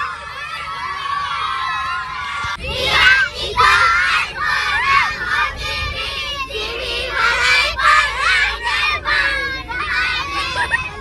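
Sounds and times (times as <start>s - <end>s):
children shouting and cheering: 0.0s - 11.0s.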